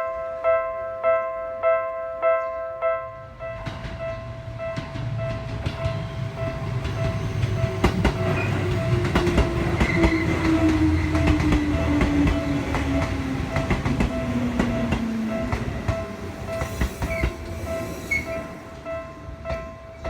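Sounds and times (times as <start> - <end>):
train wheels clicking on rail joints: 3.5 - 20.0.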